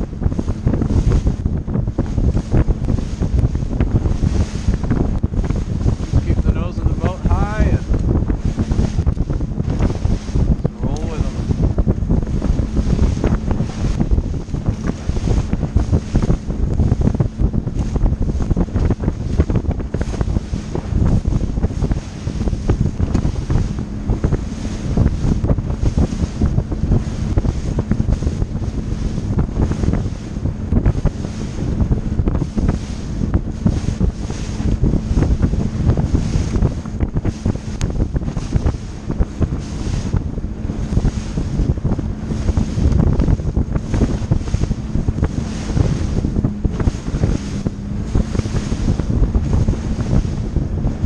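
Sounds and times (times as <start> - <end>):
boat engine running fast: 0.0 - 51.0
hull slapping waves: 0.0 - 51.0
outboard motor hum: 0.0 - 51.0
wind buffeting microphone: 0.0 - 51.0.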